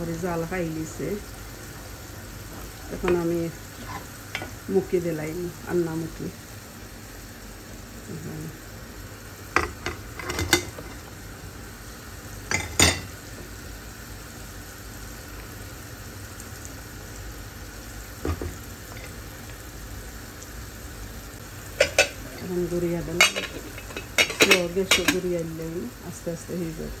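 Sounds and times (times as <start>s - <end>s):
curry sizzling in saucepan: 0.0s - 27.0s.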